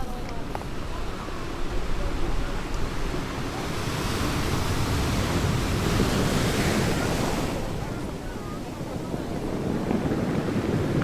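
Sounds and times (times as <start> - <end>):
ocean waves breaking on beach: 0.0 - 11.0
wind rumbling on microphone: 0.0 - 11.0.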